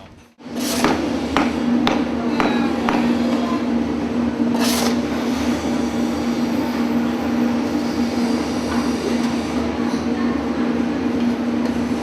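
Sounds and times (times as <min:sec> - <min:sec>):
machine shop machinery humming: 0:00.0 - 0:12.0.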